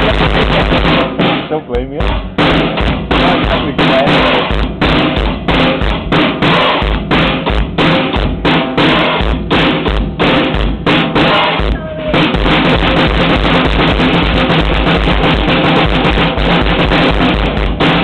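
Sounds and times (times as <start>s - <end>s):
drum kit played hard: 0.0s - 18.0s.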